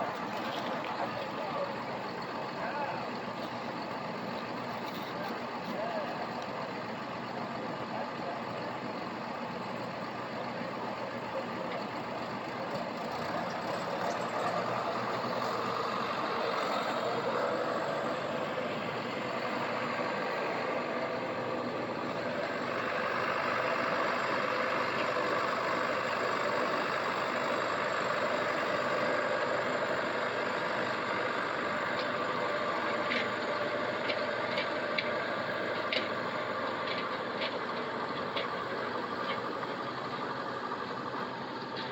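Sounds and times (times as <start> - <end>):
harvest machinery running: 0.0 - 41.9.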